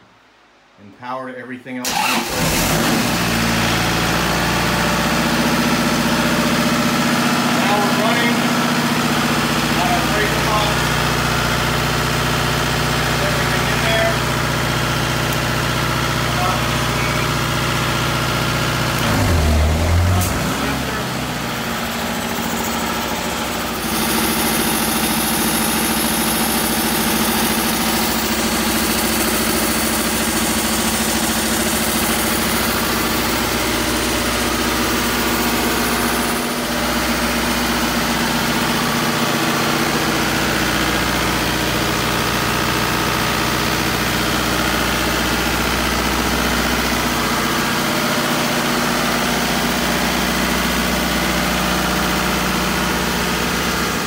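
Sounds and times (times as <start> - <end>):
diesel generator running: 1.8 - 54.0
air compressor humming: 2.0 - 54.0.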